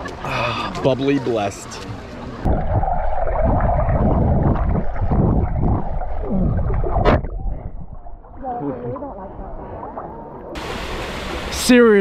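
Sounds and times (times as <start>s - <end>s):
muffled underwater rushing water: 2.4s - 12.0s.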